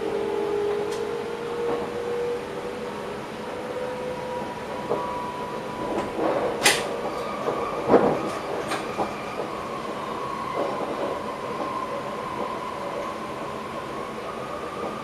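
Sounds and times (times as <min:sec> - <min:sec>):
train running on track: 0:00.0 - 0:15.0
train whine: 0:00.0 - 0:15.0.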